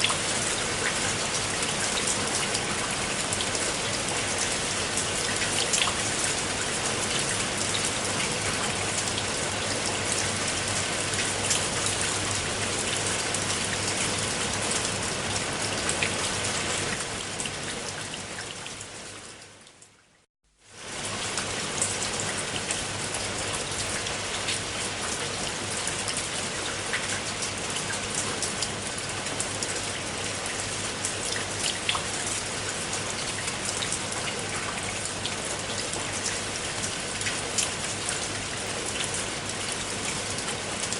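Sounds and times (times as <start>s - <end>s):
steady rain with drop ticks: 0.0s - 40.9s.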